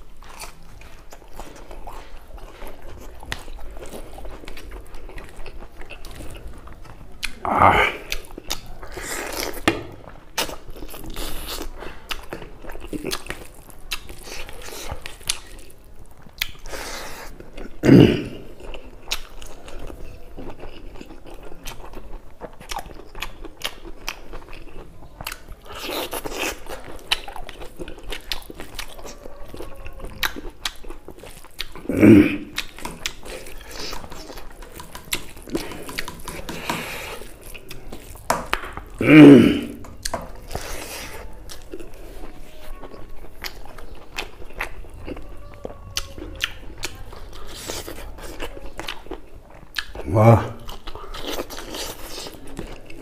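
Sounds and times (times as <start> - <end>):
man chewing food: 0.0 - 53.0.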